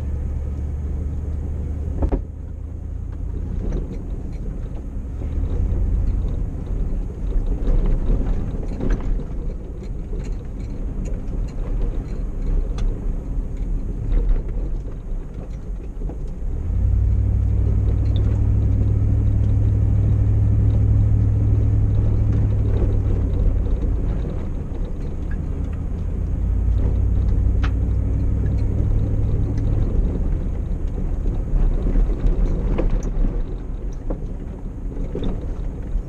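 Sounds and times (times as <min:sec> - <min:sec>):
vehicle engine droning: 0:00.0 - 0:36.0.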